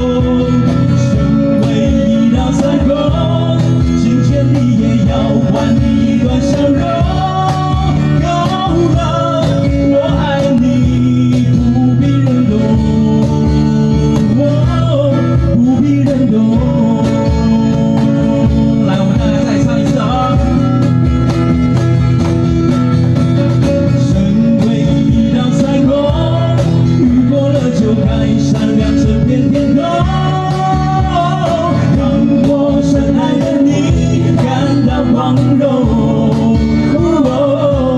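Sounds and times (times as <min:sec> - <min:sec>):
person singing: 0:00.0 - 0:21.0, 0:23.8 - 0:37.9
acoustic guitars strumming: 0:00.0 - 0:37.9
cajon beat: 0:00.0 - 0:37.9.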